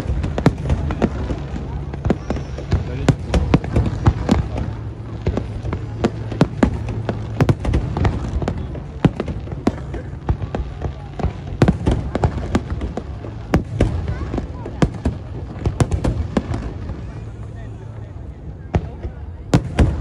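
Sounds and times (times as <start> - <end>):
low continuous rumble: 0.0 - 20.0.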